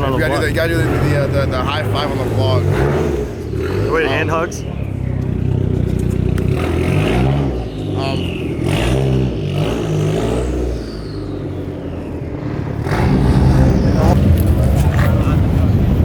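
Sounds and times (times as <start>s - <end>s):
car engine revving: 0.0s - 16.0s
low exhaust rumble: 0.0s - 16.0s.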